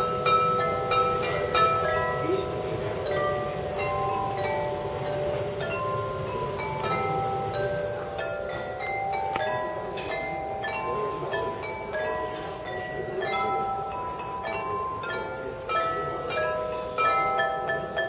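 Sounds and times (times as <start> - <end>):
porcelain bells playing a melody: 0.0 - 18.0.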